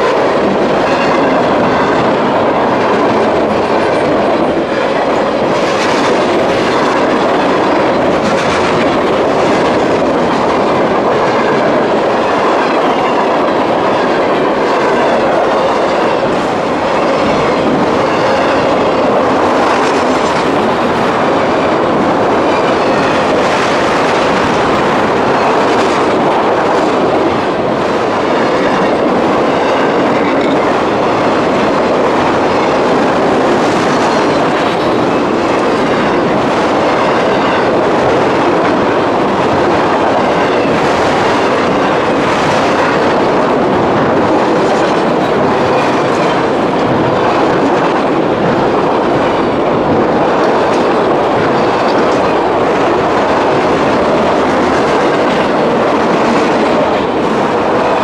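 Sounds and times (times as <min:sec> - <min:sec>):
freight train cars rolling: 0:00.0 - 0:58.0.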